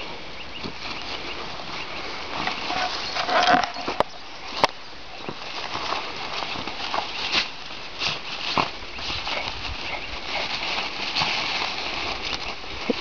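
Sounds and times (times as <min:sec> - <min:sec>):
dogs scrabbling through dry grass: 0:00.6 - 0:13.0.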